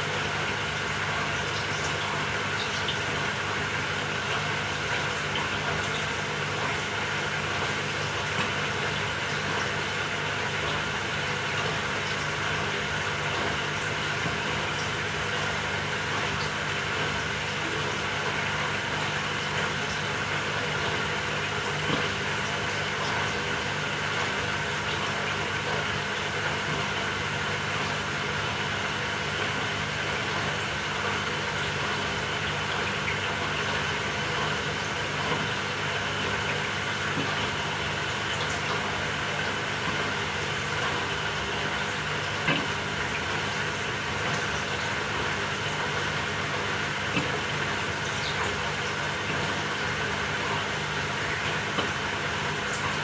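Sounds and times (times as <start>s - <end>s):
washing machine running: 0.0s - 53.0s.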